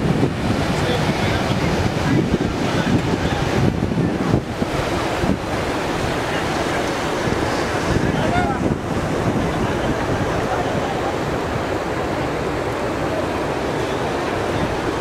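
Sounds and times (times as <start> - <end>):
floodwater rushing: 0.0 - 15.0
wind buffeting microphone: 0.0 - 15.0
faint voices: 0.6 - 15.0.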